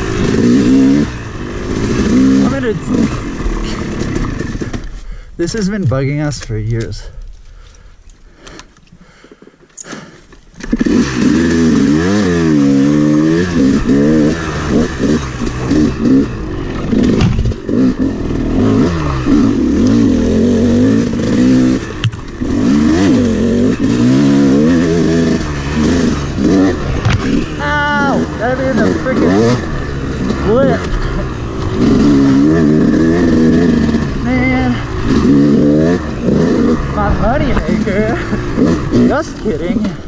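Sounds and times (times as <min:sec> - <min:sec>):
dirt bike engine revving: 0:00.0 - 0:06.1, 0:09.9 - 0:40.0.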